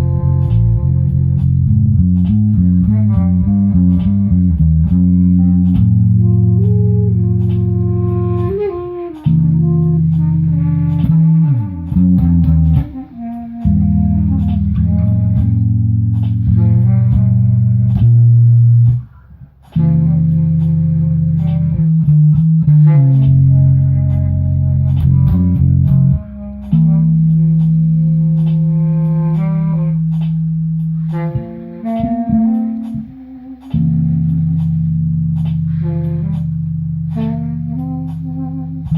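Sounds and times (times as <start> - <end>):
bass guitar playing: 0.0 - 38.9
electric guitar playing: 0.0 - 38.9.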